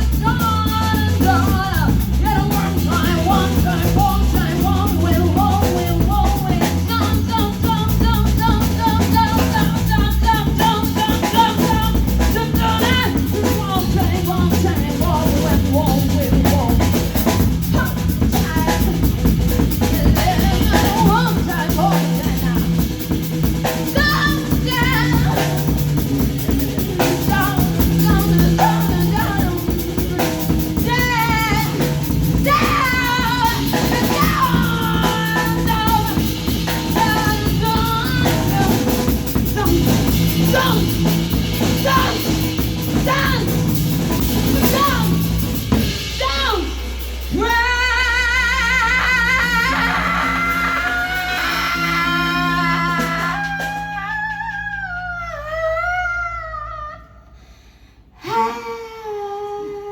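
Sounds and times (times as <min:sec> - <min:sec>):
person singing: 0:00.0 - 0:23.1, 0:23.7 - 0:45.3, 0:46.2 - 0:57.3, 0:58.2 - 0:59.9
drum kit: 0:00.0 - 0:55.1
bass line: 0:00.0 - 0:57.4.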